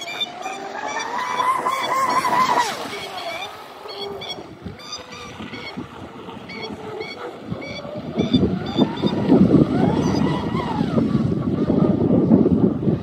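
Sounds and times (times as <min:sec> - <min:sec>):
electric speedboat motor whining: 0:00.0 - 0:13.0.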